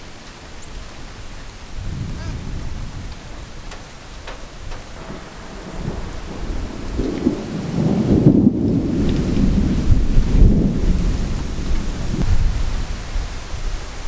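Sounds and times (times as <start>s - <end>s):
steady rain: 0.0s - 14.0s
thunder rumbling: 0.9s - 14.0s.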